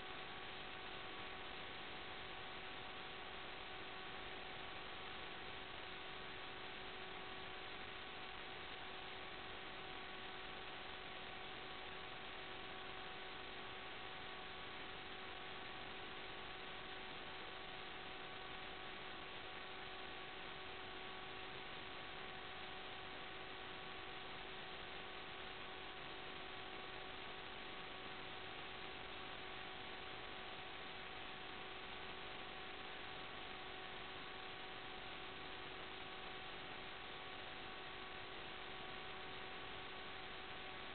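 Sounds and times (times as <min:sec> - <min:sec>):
electrical hiss: 0:00.0 - 0:40.9
faint electrical hum: 0:00.0 - 0:40.9.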